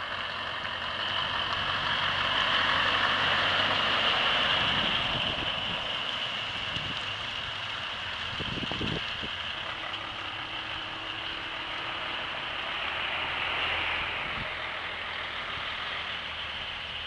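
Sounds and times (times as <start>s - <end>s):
heavy truck passing: 0.0s - 17.0s.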